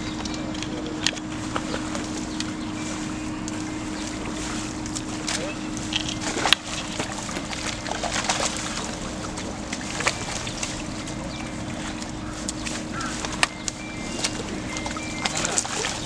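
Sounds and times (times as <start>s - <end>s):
pond water sloshing: 0.0s - 16.0s
steady low hum: 0.0s - 16.0s
water splashes: 0.0s - 16.0s.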